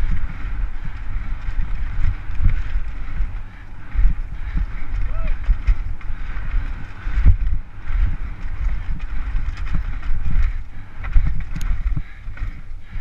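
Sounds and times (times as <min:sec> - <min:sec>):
bike knocks and rattles: 0:00.0 - 0:13.0
wind rumble on microphone: 0:00.0 - 0:13.0.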